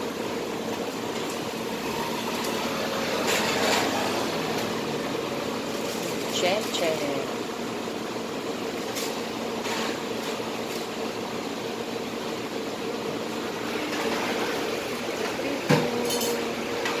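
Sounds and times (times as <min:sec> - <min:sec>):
kitchen machinery hum and hiss: 0:00.0 - 0:17.0.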